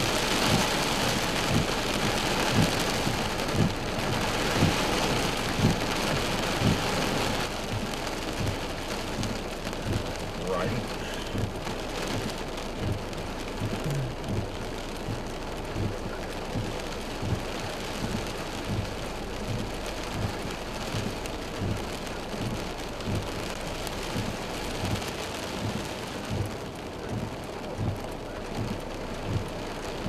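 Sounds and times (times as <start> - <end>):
heavy rain pouring: 0.0 - 30.0
soft low thuds: 0.0 - 30.0.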